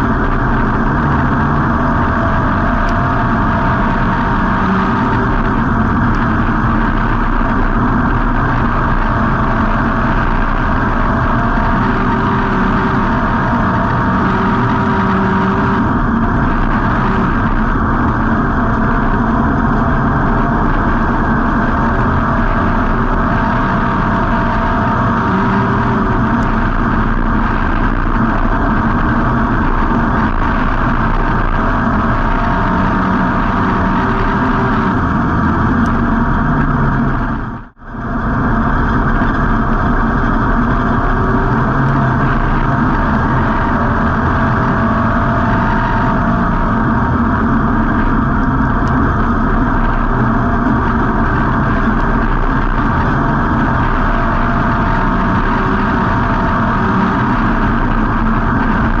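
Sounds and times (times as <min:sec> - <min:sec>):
race car engine running loud: 0:00.0 - 0:59.0.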